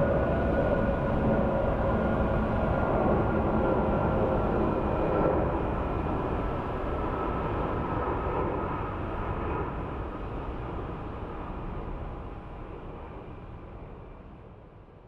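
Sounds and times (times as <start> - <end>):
jet aircraft rumble: 0.0 - 15.0.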